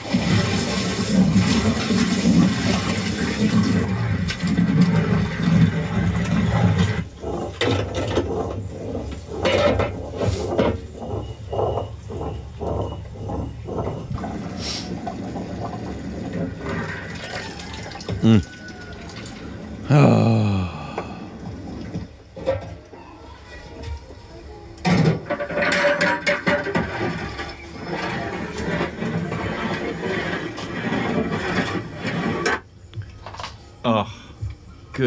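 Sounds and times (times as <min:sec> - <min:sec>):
cooking pots knocking and scraping: 0:00.0 - 0:19.7, 0:24.8 - 0:33.5.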